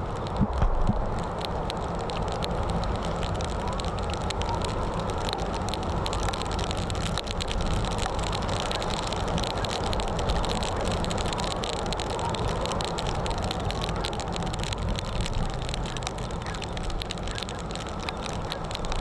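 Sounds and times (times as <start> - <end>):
small rattles and clicks: 0.0 - 19.0
wind and road noise: 0.0 - 19.0.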